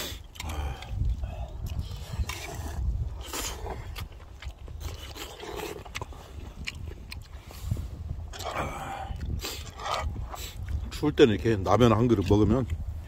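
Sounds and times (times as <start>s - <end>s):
biting and chewing: 0.0s - 13.0s
steady low rumble: 0.0s - 13.0s.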